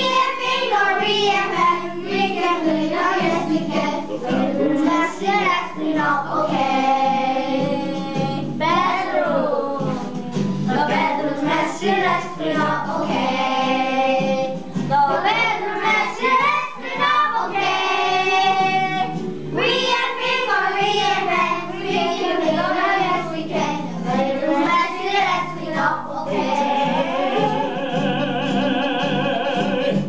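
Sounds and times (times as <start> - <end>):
children singing: 0.0 - 30.0
recorded backing music: 0.0 - 30.0.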